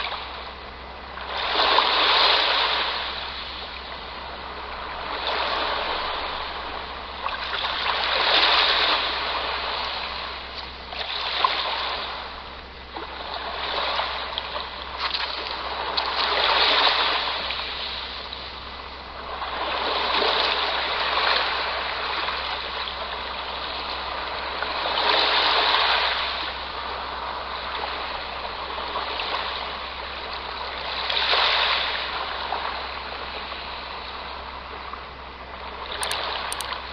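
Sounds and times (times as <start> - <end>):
sea waves washing onto shore: 1.2 - 34.9.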